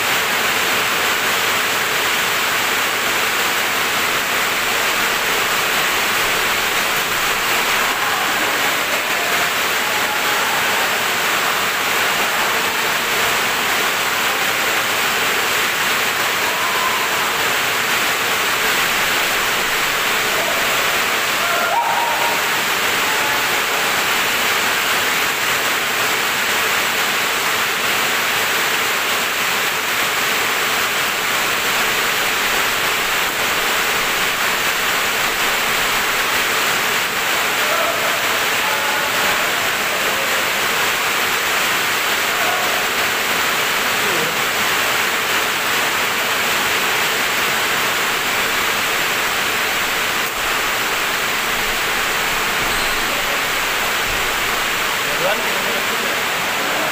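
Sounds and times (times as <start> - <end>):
steady rushing noise: 0.0 - 56.9.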